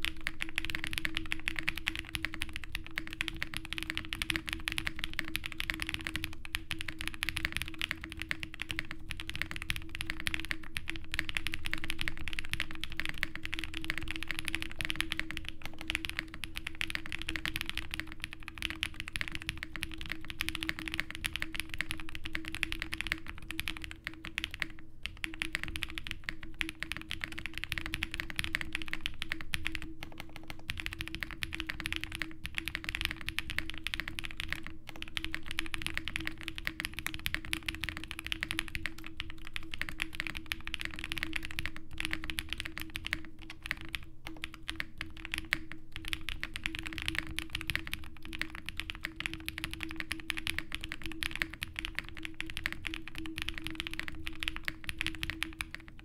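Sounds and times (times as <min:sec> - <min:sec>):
fast mechanical keyboard typing: 0:00.0 - 0:56.0.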